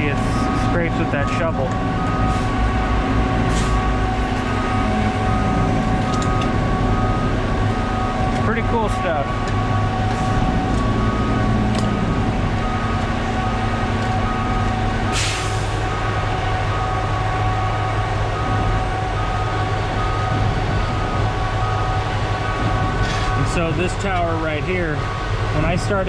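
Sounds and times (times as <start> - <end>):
truck engine hum: 0.0 - 26.0.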